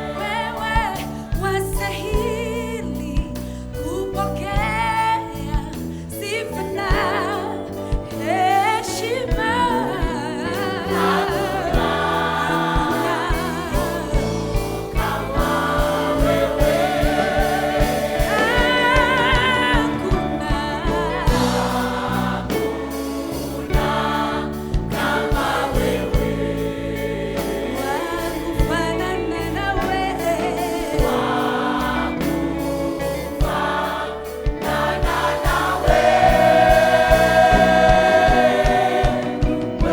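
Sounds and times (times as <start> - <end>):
choir singing: 0.0 - 3.0, 6.5 - 39.9
band with steady drum beat: 0.0 - 39.9.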